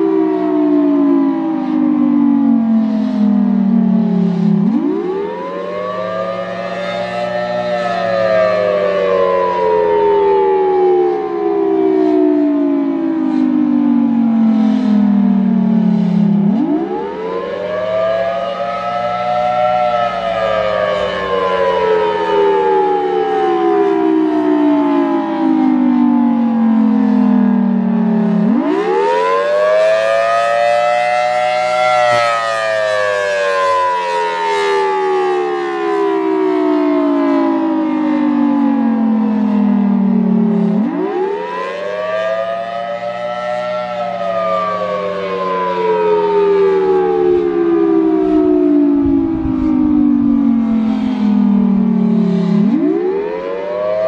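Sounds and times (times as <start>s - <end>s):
warning siren rising and falling: 0.0s - 54.0s.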